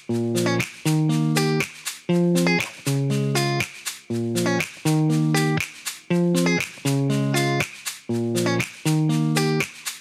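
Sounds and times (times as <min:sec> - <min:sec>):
guitar playing sustained chords: 0:00.1 - 0:09.6.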